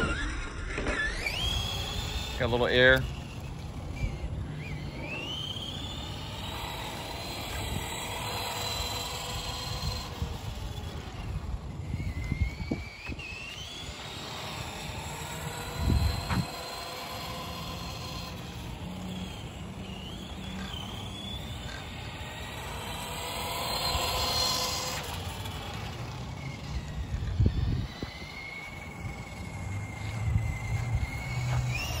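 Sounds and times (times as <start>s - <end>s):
toy truck electric motor whine: 0.0s - 32.0s.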